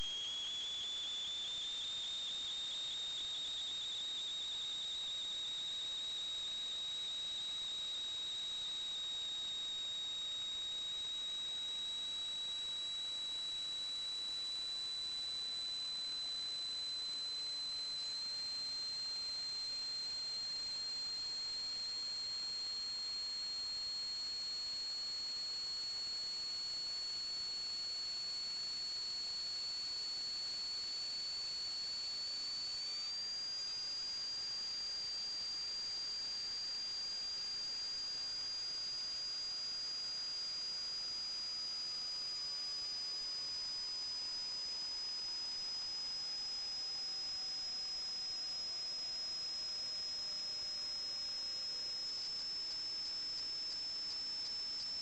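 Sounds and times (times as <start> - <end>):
high-pitched electronic whine: 0.0 - 55.0.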